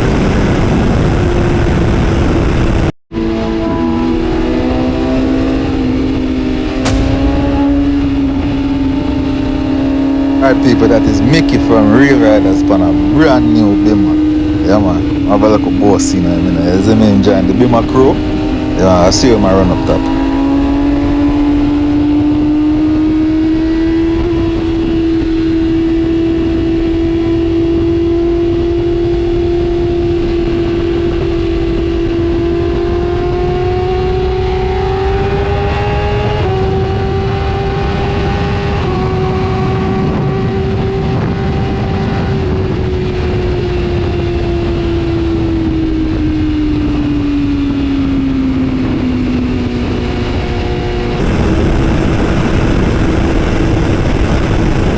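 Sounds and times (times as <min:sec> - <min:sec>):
motorcycle engine at high revs: 0:00.0 - 0:47.6, 0:48.2 - 0:54.9.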